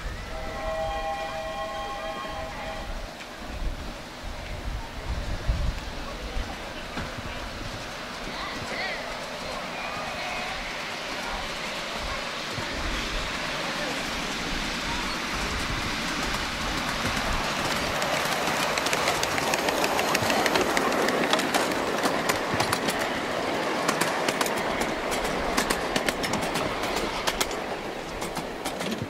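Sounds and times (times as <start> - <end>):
miniature train rolling rush: 0.0 - 29.0
steel wheels clicking on rails: 5.4 - 29.0.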